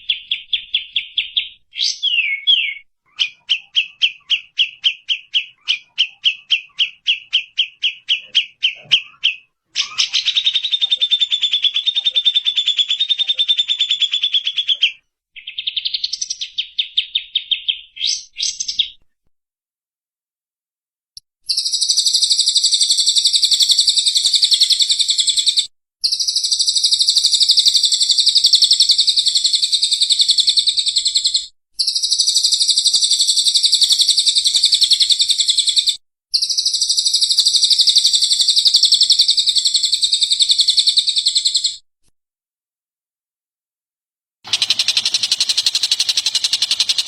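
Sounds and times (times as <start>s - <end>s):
songbird trilling: 0.0s - 19.0s, 21.5s - 41.8s, 44.5s - 47.0s.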